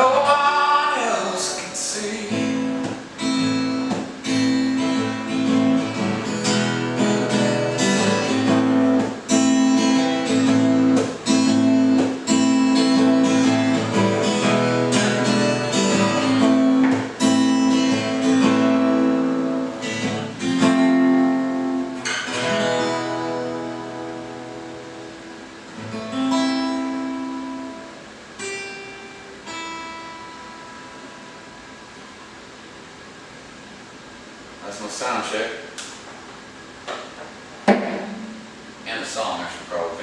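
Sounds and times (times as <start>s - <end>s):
acoustic guitar strumming chords: 0.0s - 32.8s, 37.7s - 38.9s.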